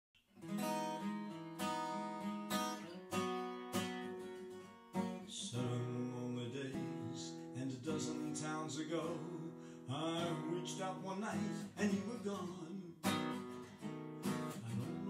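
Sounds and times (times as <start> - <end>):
acoustic guitar strumming: 0.4 - 15.0.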